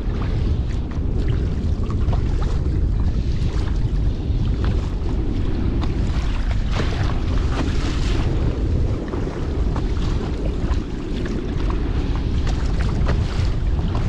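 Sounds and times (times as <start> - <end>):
sea water splashing: 0.0 - 14.0
wind buffeting microphone: 0.0 - 14.0.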